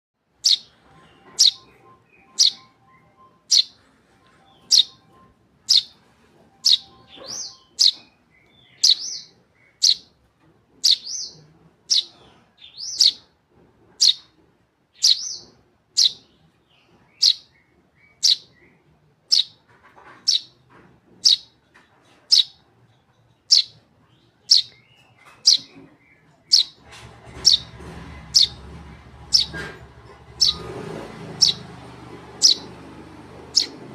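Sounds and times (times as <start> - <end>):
bird chick chirping: 0.4 - 13.3, 14.0 - 14.3, 15.0 - 20.6, 21.2 - 33.9.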